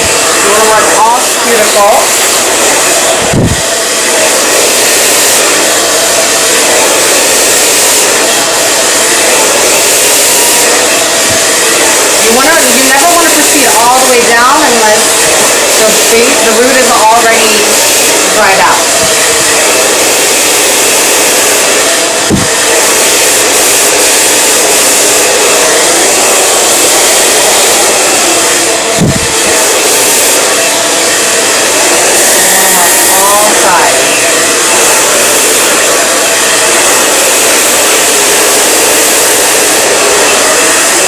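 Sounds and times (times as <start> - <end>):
blow dryer running: 0.0 - 41.0.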